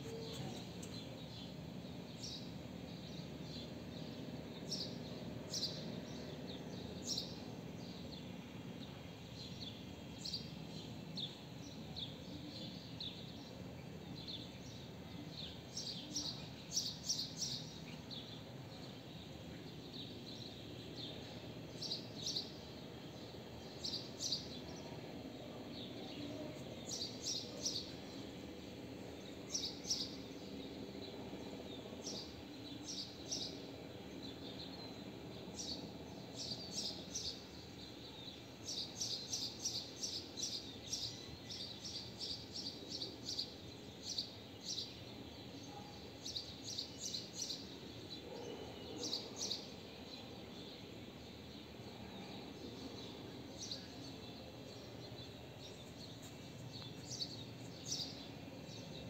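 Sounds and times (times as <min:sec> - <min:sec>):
low background hum: 0:00.0 - 0:59.0
small birds chirping: 0:00.0 - 0:59.0.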